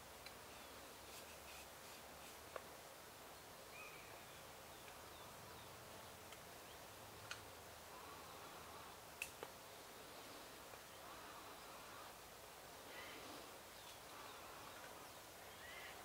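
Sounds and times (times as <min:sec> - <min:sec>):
faint hiss: 0:00.0 - 0:16.0
small birds chirping: 0:00.2 - 0:02.4, 0:03.2 - 0:09.4, 0:10.0 - 0:16.0.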